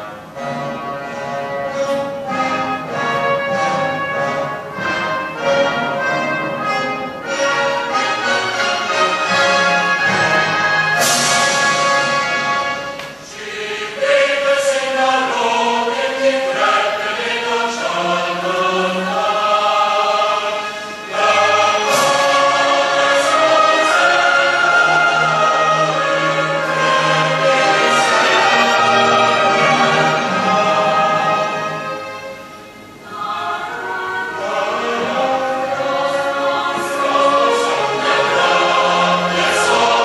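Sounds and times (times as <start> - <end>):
choir singing an anthem: 0.0 - 40.0.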